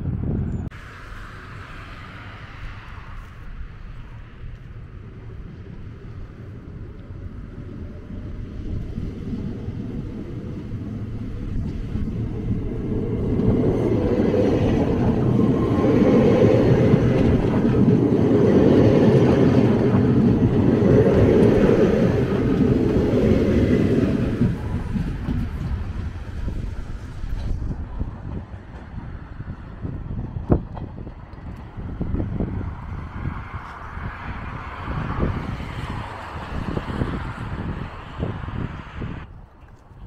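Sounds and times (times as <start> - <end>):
train wheels rumbling past: 0.4 - 39.2.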